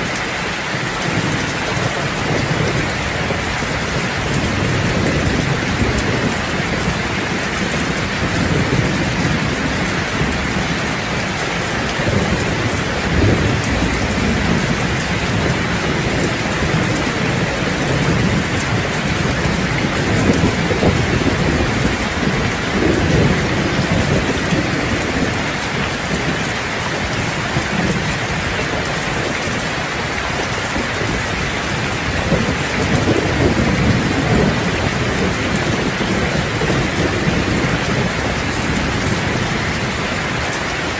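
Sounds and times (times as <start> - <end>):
heavy rain on a roof: 0.0 - 40.9
thunder rolling: 0.1 - 40.5.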